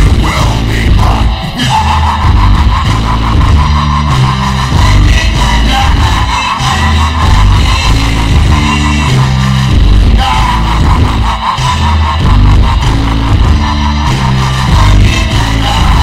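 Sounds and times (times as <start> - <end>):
bass-boosted rock music: 0.0 - 16.0.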